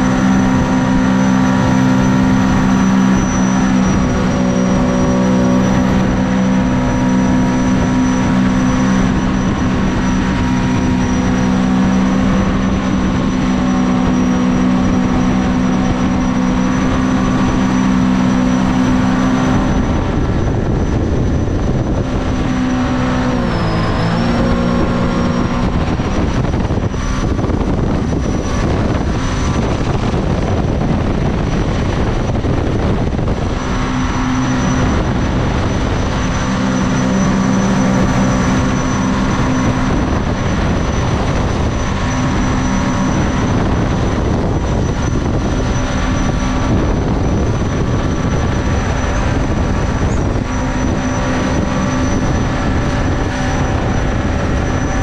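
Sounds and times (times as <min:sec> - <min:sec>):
boat engine running hard: 0:00.0 - 0:55.0
high engine whine: 0:00.0 - 0:55.0
rush of wind and water: 0:00.0 - 0:55.0.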